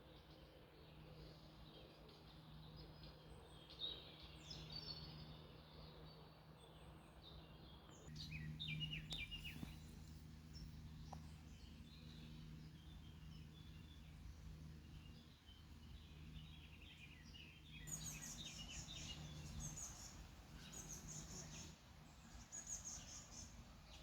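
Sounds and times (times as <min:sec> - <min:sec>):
low background noise: 0:00.0 - 0:24.0
birds chirping: 0:01.5 - 0:24.0.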